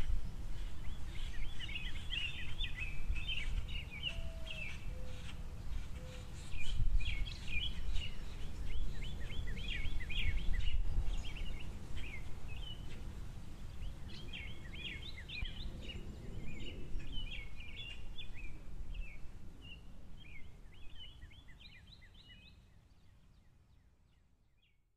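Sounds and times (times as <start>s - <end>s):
songbirds chirping and twittering: 0.0s - 24.9s.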